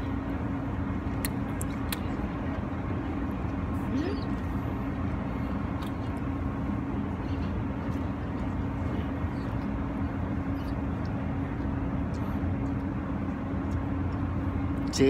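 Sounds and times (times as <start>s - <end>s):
city traffic rumble: 0.0s - 15.0s
constant low hum: 0.0s - 15.0s.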